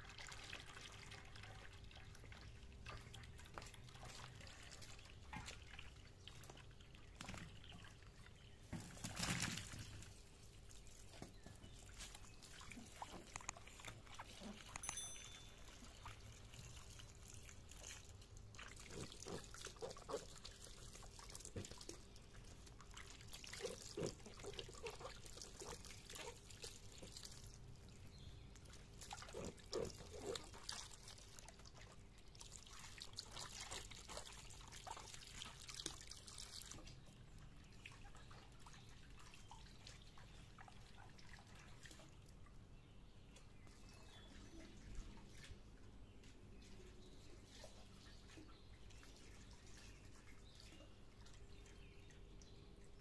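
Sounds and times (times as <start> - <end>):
water splashing and trickling in basin: 0.0 - 53.0.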